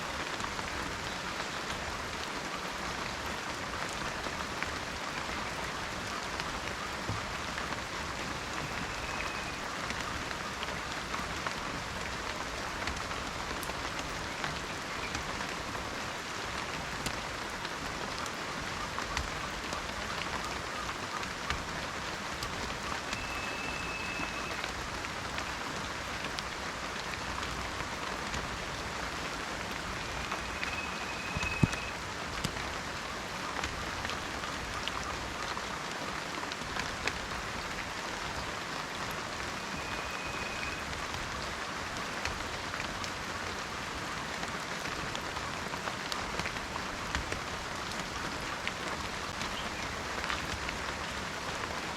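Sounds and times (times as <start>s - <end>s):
rain falling in forest: 0.0s - 51.9s.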